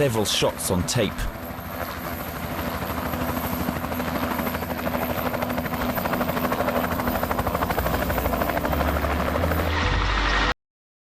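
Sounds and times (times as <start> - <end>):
helicopter rotor chopping: 0.0 - 10.5.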